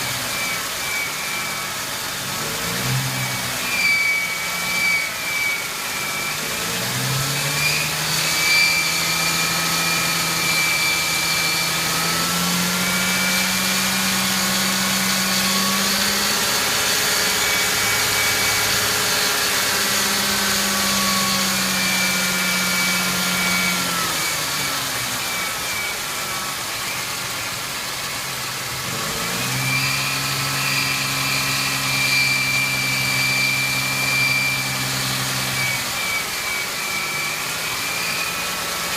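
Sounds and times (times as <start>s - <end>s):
high-pitched engine squeal: 0.0s - 38.9s.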